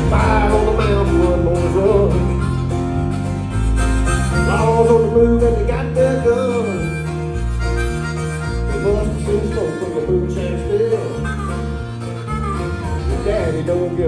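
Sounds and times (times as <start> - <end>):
electric bass: 0.0 - 14.0
harmonica bending lead line: 0.0 - 14.0
strummed acoustic guitars: 0.0 - 14.0.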